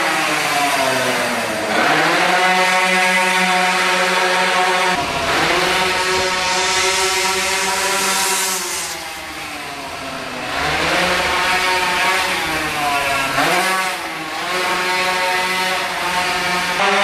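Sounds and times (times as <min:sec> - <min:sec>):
go-kart engine revving: 0:00.0 - 0:17.0.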